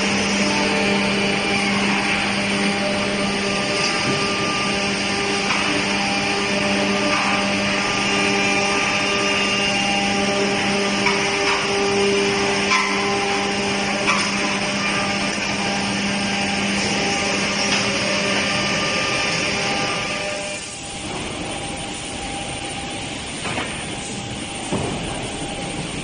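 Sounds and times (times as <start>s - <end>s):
woodworking machinery humming: 0.0s - 26.0s.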